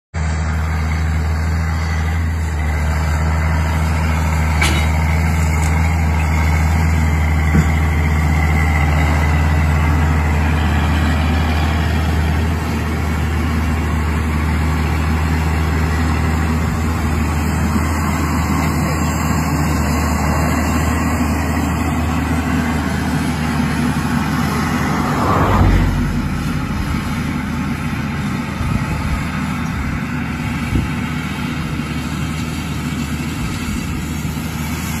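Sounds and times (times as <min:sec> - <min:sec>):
tractor diesel engine under load: 0:00.1 - 0:35.0.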